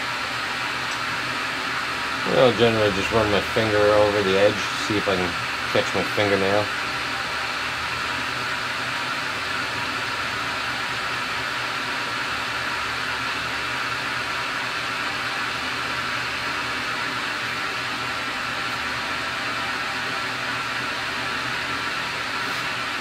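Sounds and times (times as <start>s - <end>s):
lathe spindle whirring: 0.0s - 23.0s.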